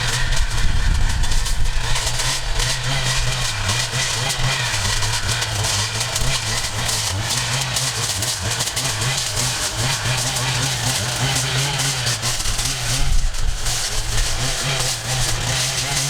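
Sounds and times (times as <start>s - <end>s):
petrol engine running steadily: 0.0s - 16.0s.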